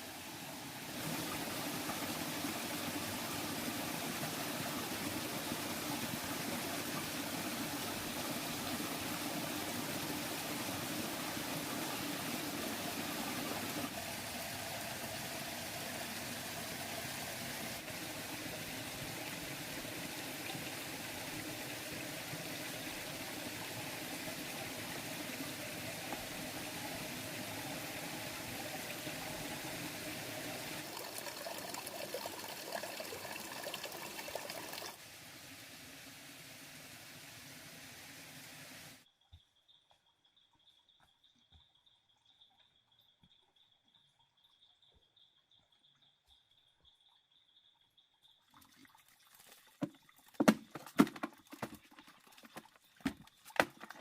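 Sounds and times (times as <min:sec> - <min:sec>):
stream running over rocks: 0:00.0 - 0:39.0, 0:48.5 - 0:54.0.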